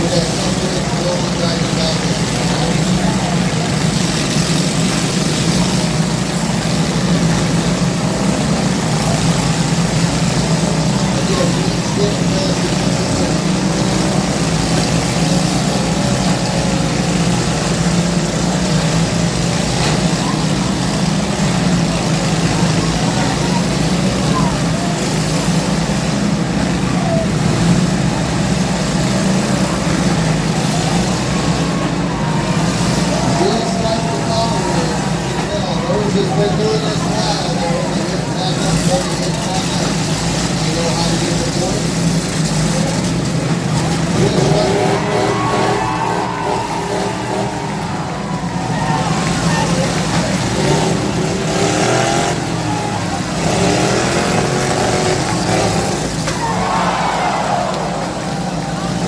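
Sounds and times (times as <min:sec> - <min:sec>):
lawn tractor engines droning: 0:00.0 - 0:59.0.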